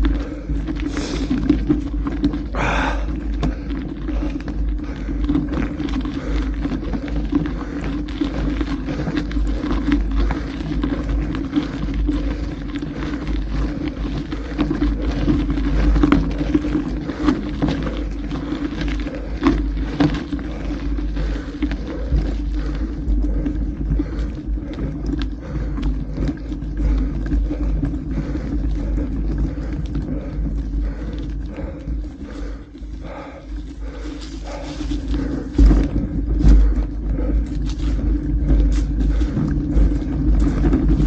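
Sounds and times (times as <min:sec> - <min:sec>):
bike rattles and clicks: 0:00.0 - 0:41.0
bike tyre noise: 0:00.0 - 0:41.0
low rumble: 0:00.0 - 0:41.0.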